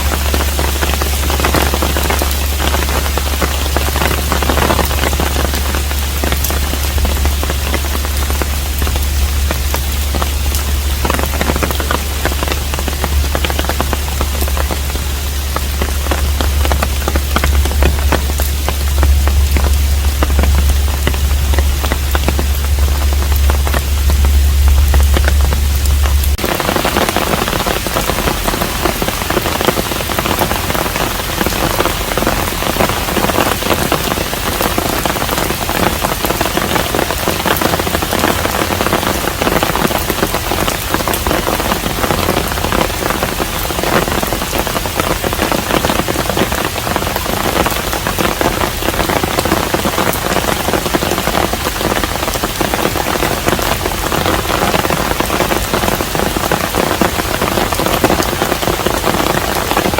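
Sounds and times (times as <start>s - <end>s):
rain pattering on roof: 0.0s - 59.9s.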